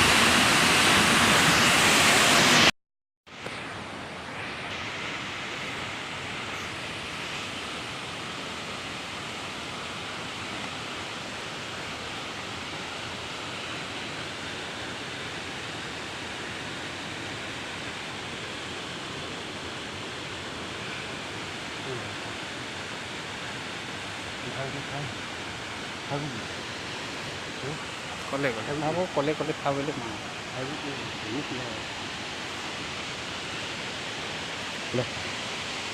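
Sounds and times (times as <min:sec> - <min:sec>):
waterfall rushing: 0:00.0 - 0:02.7, 0:03.8 - 0:35.9.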